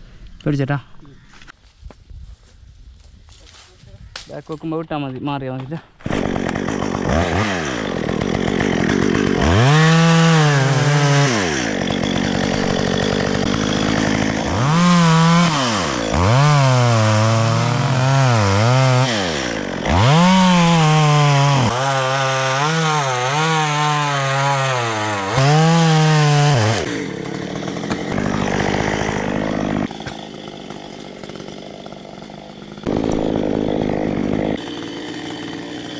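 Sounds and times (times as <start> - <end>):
chainsaw revving and cutting wood: 5.6 - 35.9.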